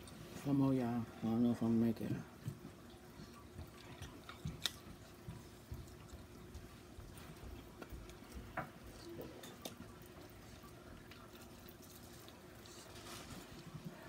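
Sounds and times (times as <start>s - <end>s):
faint steady hum: 0.0s - 14.0s
faint wet chewing: 2.3s - 14.0s.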